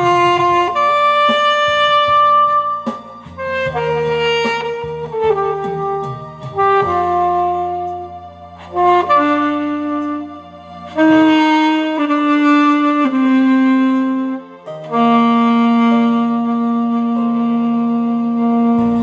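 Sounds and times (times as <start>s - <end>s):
alto saxophone melody: 0.0s - 19.0s
low bass notes: 0.0s - 19.0s.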